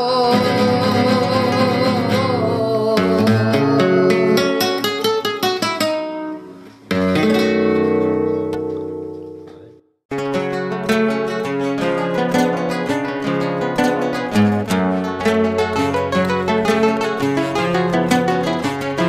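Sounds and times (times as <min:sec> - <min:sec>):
acoustic guitar plucked notes: 0:00.0 - 0:19.0
guitar strummed chord: 0:00.3 - 0:19.0.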